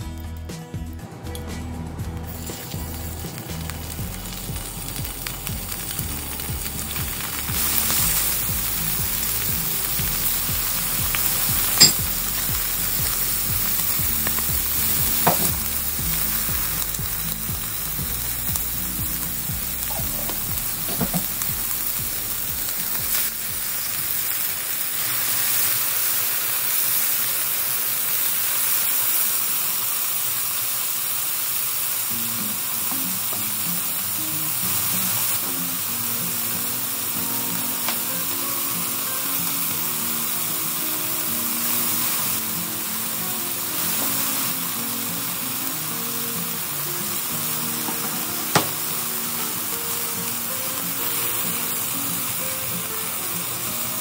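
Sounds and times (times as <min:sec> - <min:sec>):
chicken sizzling in hot oil: 0:02.2 - 0:54.0.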